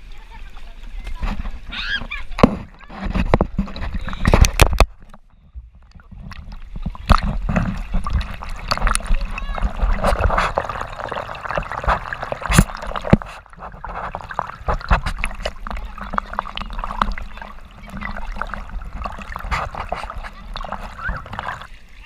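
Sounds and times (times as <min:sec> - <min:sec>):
water rushing and splashing: 0:00.0 - 0:22.0
knocks and splatters: 0:02.3 - 0:05.1, 0:06.0 - 0:21.7.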